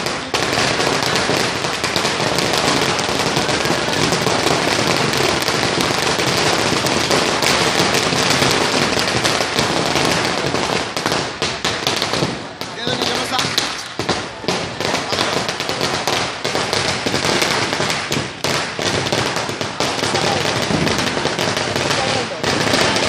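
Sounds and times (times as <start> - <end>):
firecrackers popping: 0.0 - 23.0.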